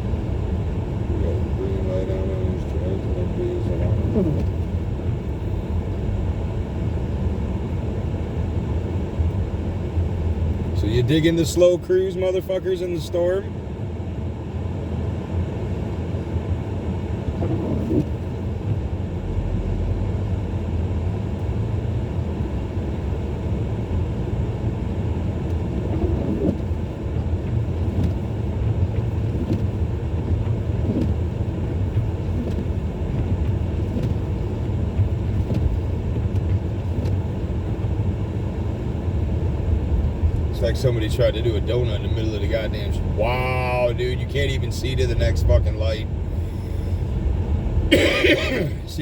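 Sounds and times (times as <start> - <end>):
car engine and tyre road noise: 0.0 - 49.0.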